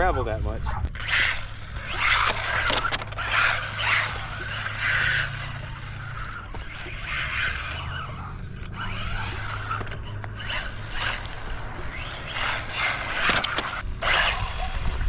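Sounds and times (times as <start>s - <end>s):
low steady rumble: 0.0s - 15.0s
toy truck tyres spinning on gravel: 0.9s - 15.0s.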